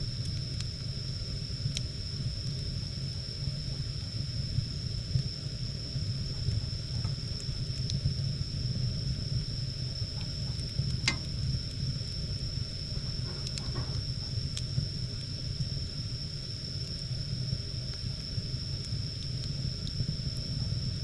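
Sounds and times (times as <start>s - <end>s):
wood fire crackling: 0.0s - 21.0s
fire popping: 0.1s - 21.0s.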